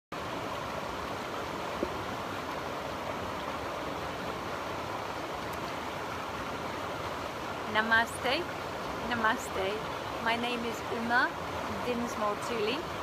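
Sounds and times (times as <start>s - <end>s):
river rushing: 0.2s - 13.0s.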